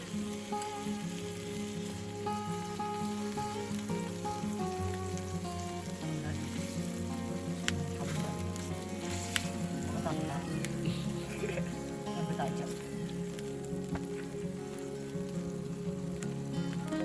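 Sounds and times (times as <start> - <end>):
background music: 0.0 - 17.0
food sizzling on griddle: 0.0 - 17.0.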